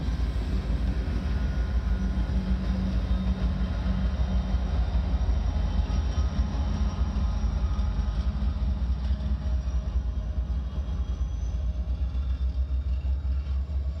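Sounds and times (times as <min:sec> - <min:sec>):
diesel locomotive engines: 0:00.0 - 0:14.0
steady low rumble: 0:00.0 - 0:14.0.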